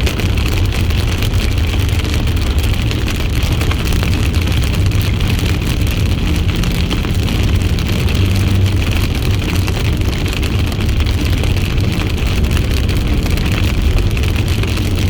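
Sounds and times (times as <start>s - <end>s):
car cabin road and engine drone: 0.0s - 15.0s.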